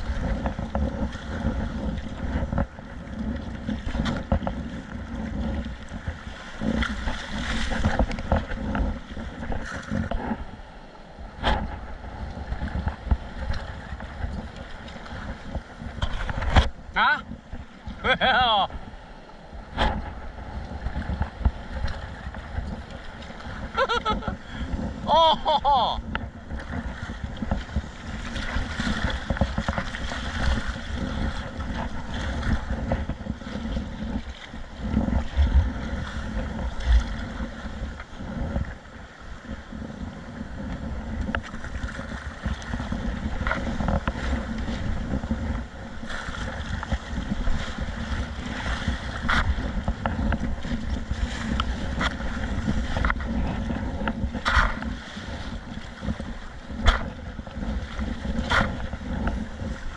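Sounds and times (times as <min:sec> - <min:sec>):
sea waves washing: 0:00.0 - 0:59.9
wind buffeting microphone: 0:00.0 - 0:59.9.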